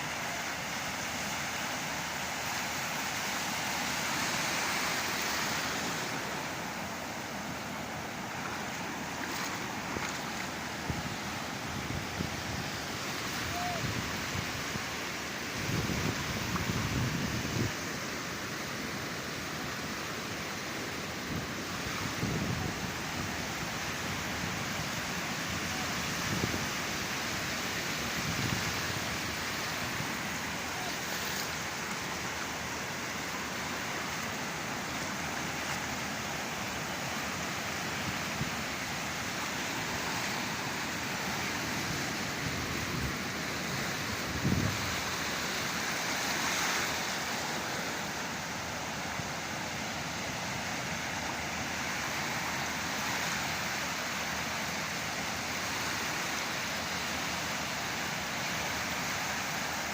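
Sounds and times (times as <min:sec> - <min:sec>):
sea surf breaking: 0:01.6 - 0:54.5.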